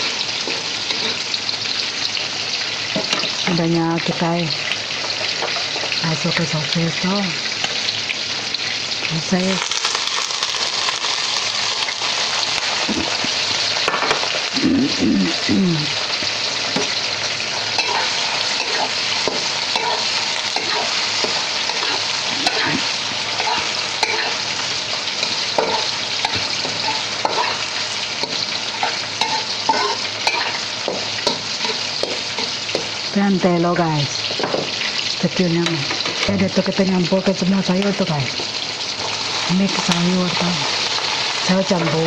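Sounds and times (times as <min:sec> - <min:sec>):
food sizzling in a pan: 0:00.0 - 0:42.0.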